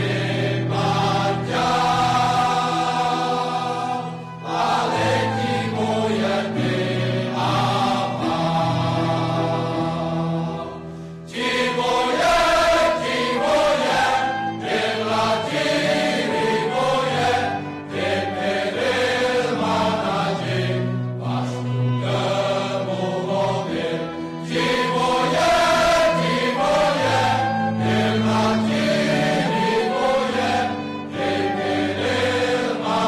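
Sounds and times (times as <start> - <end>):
male choir singing a hymn: 0.0 - 33.0.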